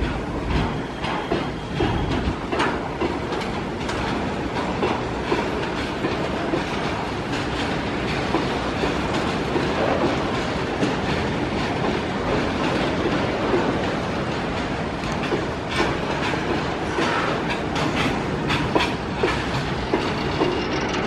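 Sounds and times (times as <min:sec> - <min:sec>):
freight train rolling past: 0:00.0 - 0:21.0
wheels clattering on rails: 0:00.0 - 0:21.0.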